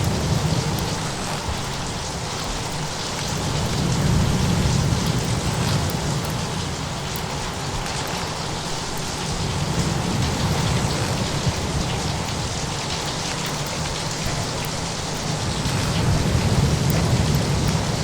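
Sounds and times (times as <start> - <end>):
heavy rain hissing: 0.0 - 18.0
low storm rumble: 0.0 - 18.0.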